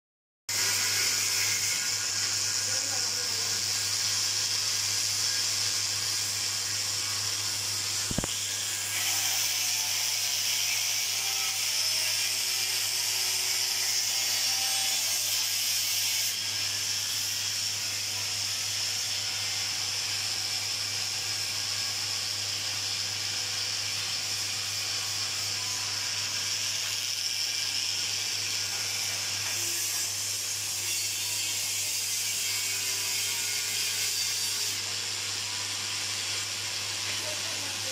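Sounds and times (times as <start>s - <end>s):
angle grinder grinding steel pipe: 0.5s - 37.9s.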